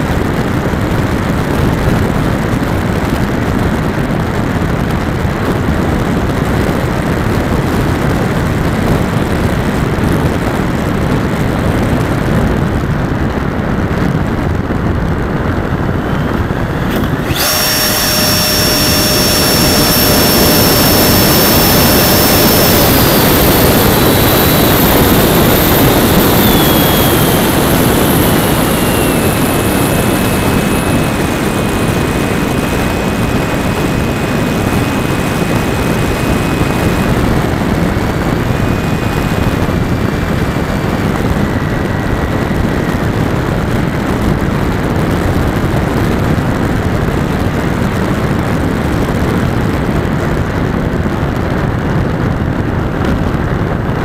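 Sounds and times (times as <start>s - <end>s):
electric ducted fan whine: 0.0s - 54.0s
rushing wind: 0.0s - 54.0s.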